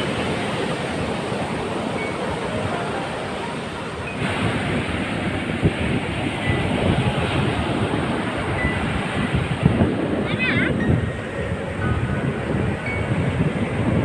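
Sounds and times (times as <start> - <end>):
sea surf rushing: 0.0 - 14.0
wind buffeting microphone: 0.0 - 14.0.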